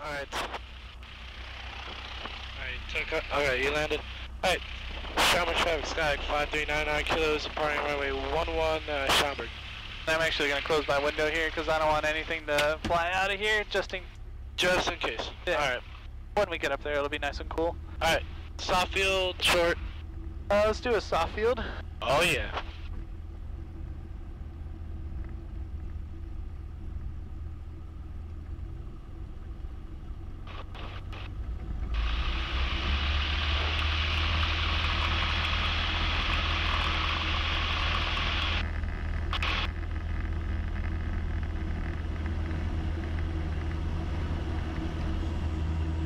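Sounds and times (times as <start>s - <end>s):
light aircraft piston engine: 0.0s - 46.0s.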